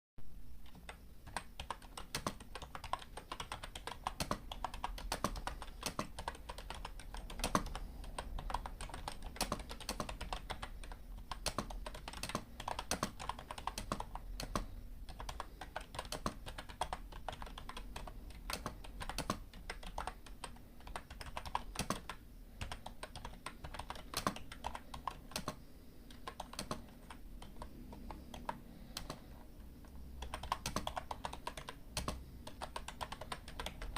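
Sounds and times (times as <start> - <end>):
typing on computer keyboard: 0.6 - 33.9.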